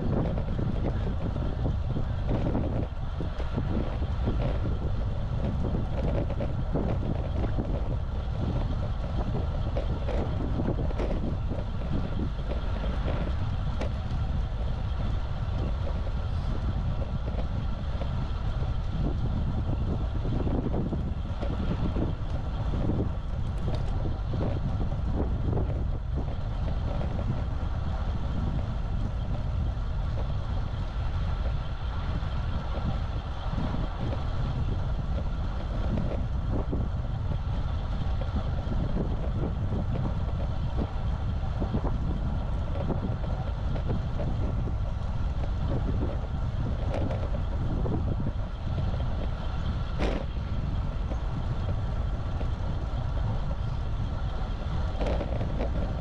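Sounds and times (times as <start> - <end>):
low road rumble: 0.0 - 56.0
wind rushing over microphone: 0.0 - 56.0.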